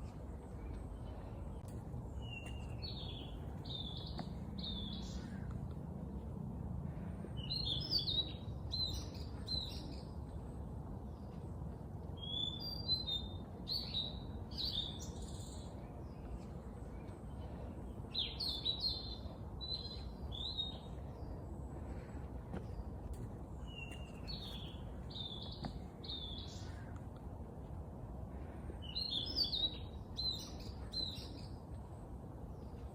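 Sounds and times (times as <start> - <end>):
low background rumble: 0.0 - 32.9.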